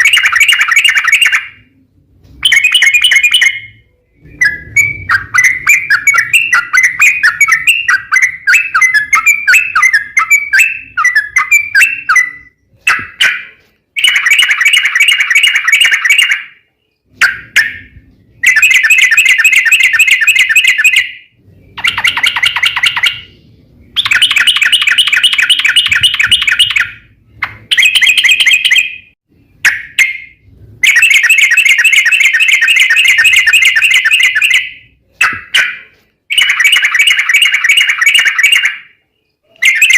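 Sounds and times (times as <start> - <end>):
bulbul singing trills: 2.4 - 39.9.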